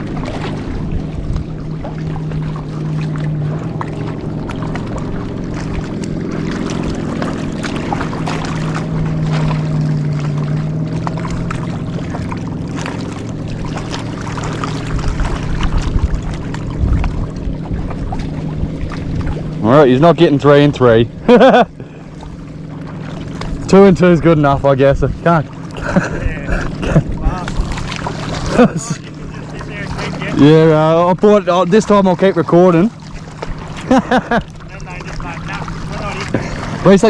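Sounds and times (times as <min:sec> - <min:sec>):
low motor hum: 0:00.0 - 0:37.0.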